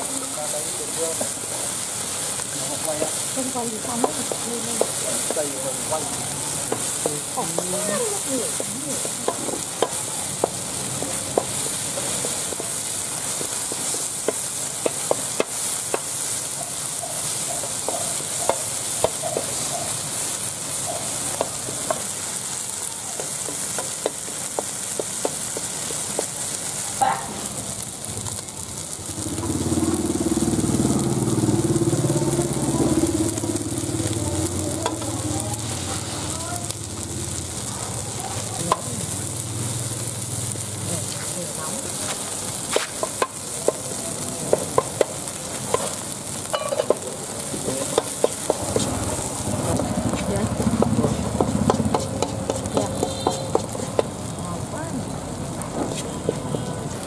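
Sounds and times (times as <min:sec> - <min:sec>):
snails sizzling in a wok: 0:00.0 - 0:57.0.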